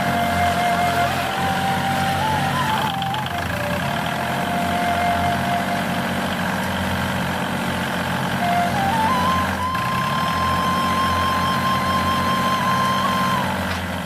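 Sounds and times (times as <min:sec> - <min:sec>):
simple tune of held notes: 0:00.0 - 0:06.4, 0:08.4 - 0:13.8
engine-like hum: 0:00.0 - 0:14.0.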